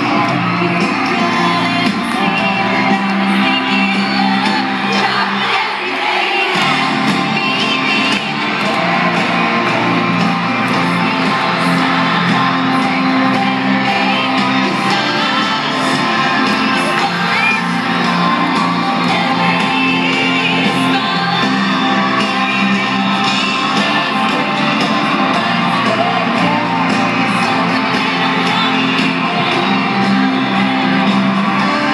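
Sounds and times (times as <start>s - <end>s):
crowd screaming and whooping: 0.0s - 31.9s
distant concert music: 0.0s - 31.9s.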